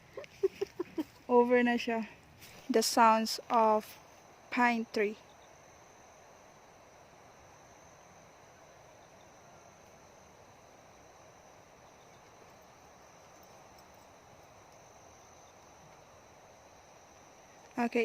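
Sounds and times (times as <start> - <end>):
high insect trill: 0.0 - 18.0
wind through pine trees: 0.0 - 18.0.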